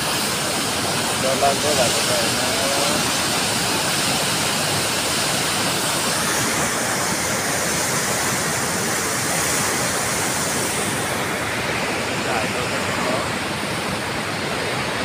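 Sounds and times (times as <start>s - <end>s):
river rushing over boulders: 0.0s - 15.0s.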